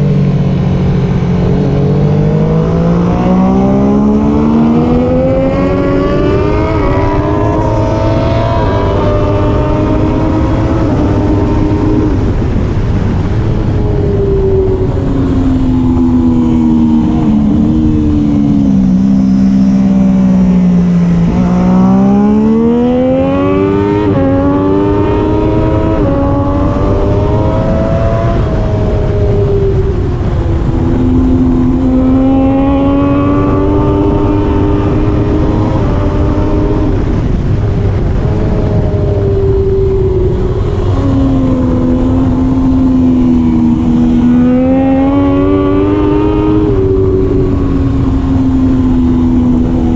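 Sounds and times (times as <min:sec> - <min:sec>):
motorcycle engine revving: 0:00.0 - 0:49.9
wind rushing: 0:00.0 - 0:49.9.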